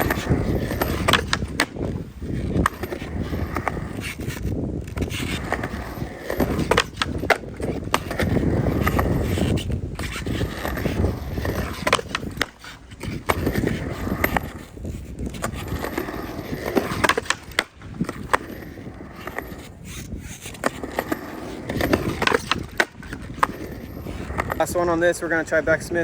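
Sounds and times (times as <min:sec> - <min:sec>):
skateboard clacking on coping: 0:00.0 - 0:25.6
skateboard wheels rolling on concrete: 0:00.0 - 0:26.0.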